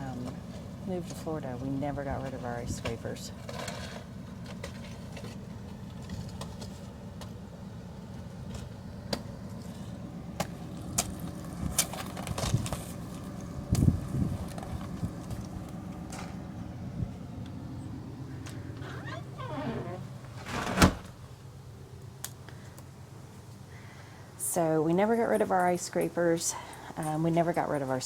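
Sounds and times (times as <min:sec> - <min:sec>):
truck engine idling: 0:00.0 - 0:24.7.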